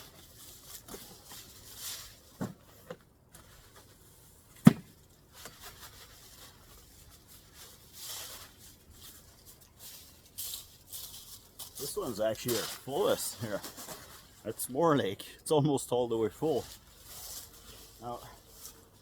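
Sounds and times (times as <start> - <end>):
paper bag of leaves rustling: 0.0 - 15.2, 15.8 - 19.0.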